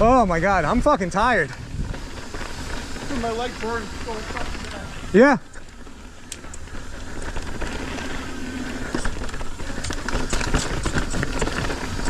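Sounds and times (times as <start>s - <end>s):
bike rattling and clicking: 0.0s - 12.0s
bike tyres rolling on rocky ground: 0.0s - 12.0s.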